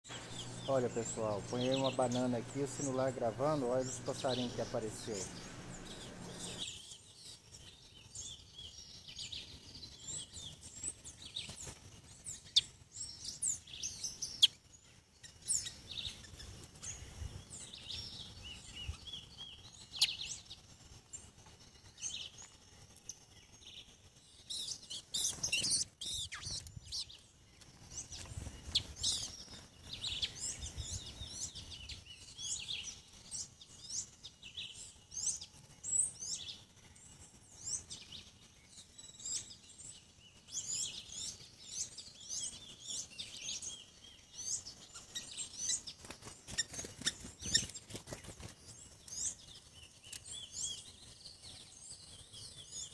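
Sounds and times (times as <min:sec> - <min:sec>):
wild birds chirping: 0:00.0 - 0:52.9.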